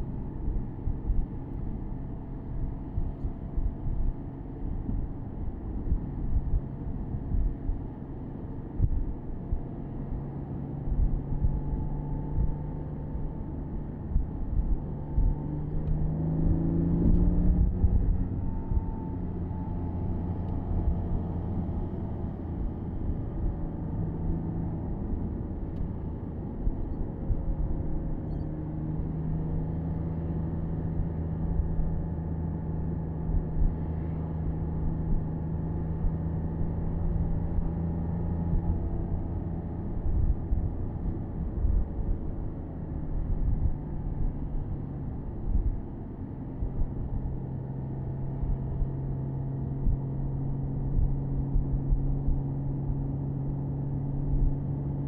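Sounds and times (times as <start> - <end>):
car engine cruising: 0.0 - 55.0
road rumble: 0.0 - 55.0
wind: 0.0 - 55.0.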